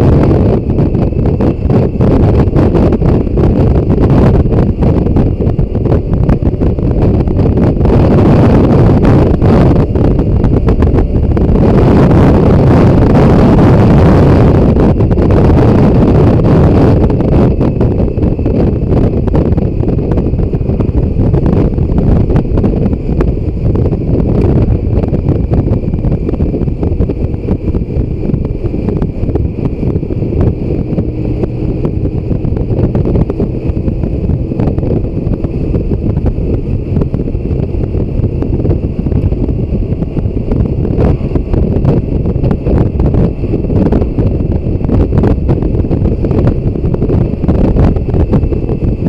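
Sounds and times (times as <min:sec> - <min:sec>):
motorcycle engine running: 0:00.0 - 0:49.0
wind rumble on microphone: 0:00.0 - 0:49.0.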